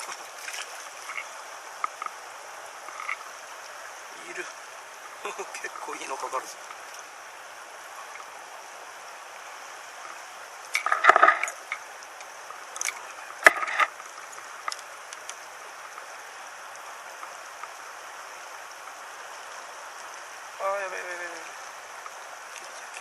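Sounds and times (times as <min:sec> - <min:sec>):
small stream running: 0:00.0 - 0:23.0.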